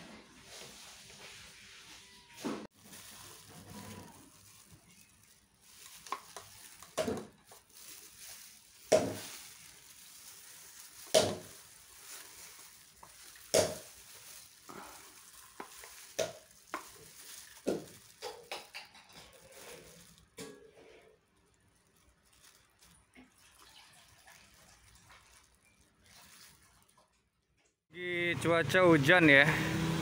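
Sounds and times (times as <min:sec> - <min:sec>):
plastic gloves crinkling: 0:00.4 - 0:27.4.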